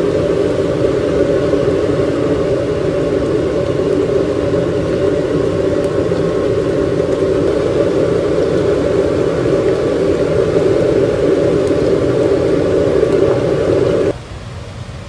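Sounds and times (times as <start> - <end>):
low rumble: 0.0 - 14.1.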